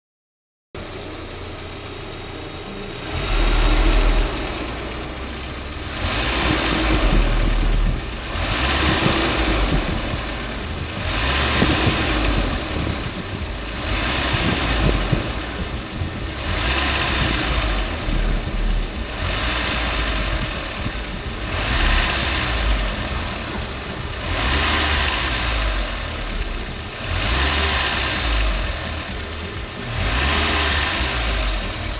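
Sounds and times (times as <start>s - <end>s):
car engine idling and revving: 0.8s - 31.9s
odd mechanical noise: 2.8s - 31.9s.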